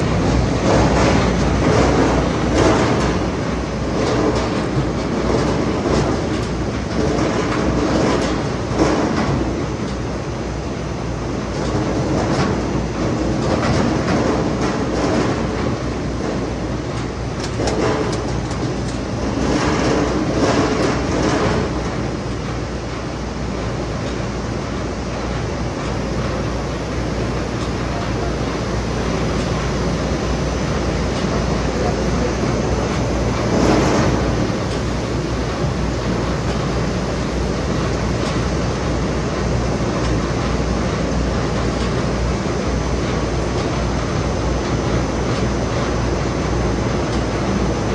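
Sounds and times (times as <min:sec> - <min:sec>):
potato washing machine running: 0:00.0 - 0:47.9.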